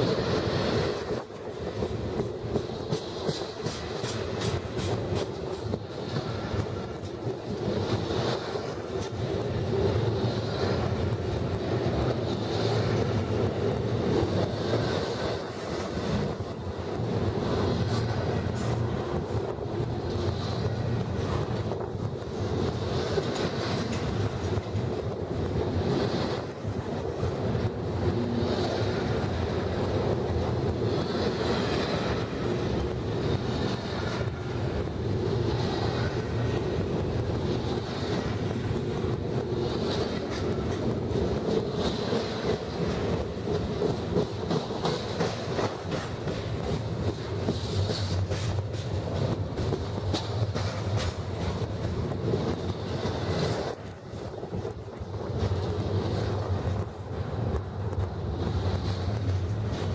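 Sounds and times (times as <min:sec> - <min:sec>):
freight train rolling past: 0:00.0 - 0:59.9
wheels clacking over rail joints: 0:00.0 - 0:59.9.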